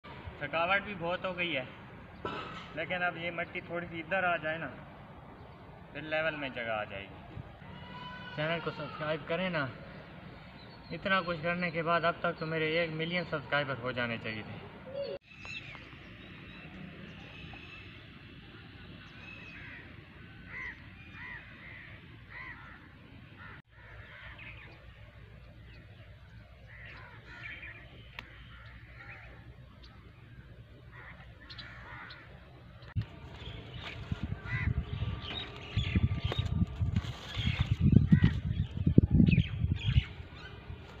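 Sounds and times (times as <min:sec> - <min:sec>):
faint outdoor background: 0:00.0 - 0:41.0
birds calling: 0:00.4 - 0:41.0.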